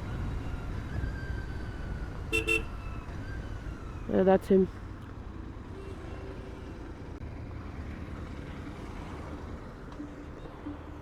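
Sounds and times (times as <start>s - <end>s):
road traffic engines: 0.0s - 11.0s.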